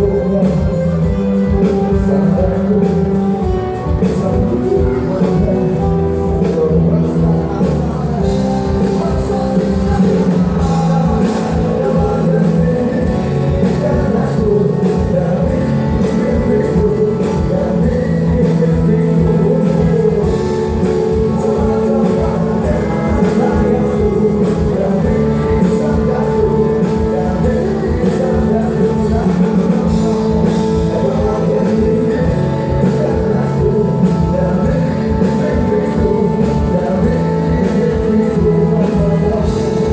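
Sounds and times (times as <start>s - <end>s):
person singing: 0.0s - 39.9s
rock band playing: 0.0s - 39.9s
drum beat: 0.1s - 39.9s.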